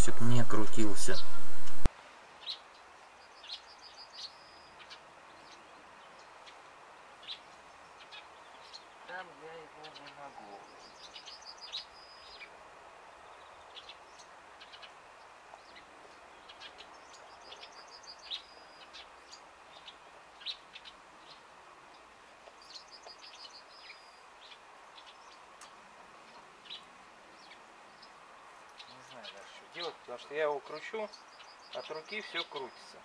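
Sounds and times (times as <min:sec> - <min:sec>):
bird chirps: 0:00.0 - 0:06.6, 0:09.8 - 0:12.5, 0:13.2 - 0:25.4, 0:26.3 - 0:33.0
songbird singing faintly: 0:00.0 - 0:33.0.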